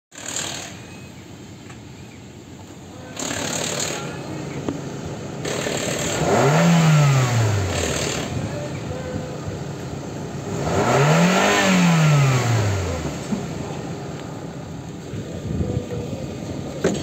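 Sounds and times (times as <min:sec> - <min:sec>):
car engine idling and revving: 0:00.1 - 0:17.0.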